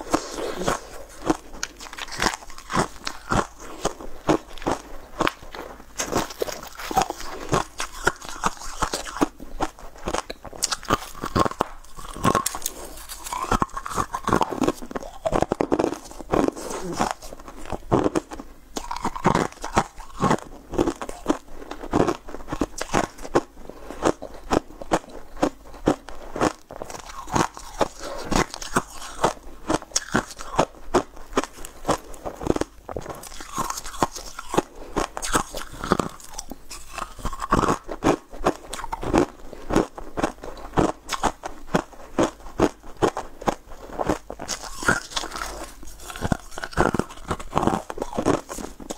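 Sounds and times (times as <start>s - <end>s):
chewing: 0.0s - 48.9s
crunching sweets: 0.0s - 48.9s.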